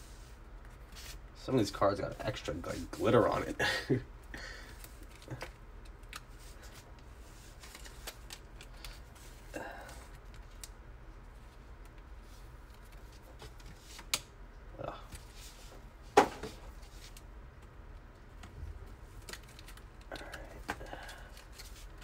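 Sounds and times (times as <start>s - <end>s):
low steady hum: 0.0s - 22.0s
cards and plastic sleeves rustling: 0.6s - 3.5s, 4.6s - 14.3s, 15.0s - 17.3s, 18.3s - 22.0s.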